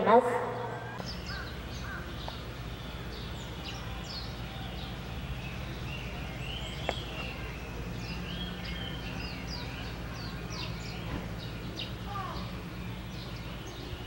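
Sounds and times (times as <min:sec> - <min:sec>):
low background hum: 0:00.0 - 0:14.0
small birds chirping: 0:00.0 - 0:14.0.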